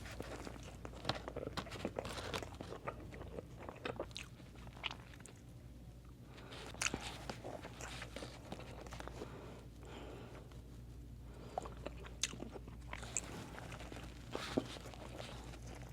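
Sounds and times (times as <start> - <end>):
person chewing crunchy food: 0.0 - 10.1, 11.3 - 15.9.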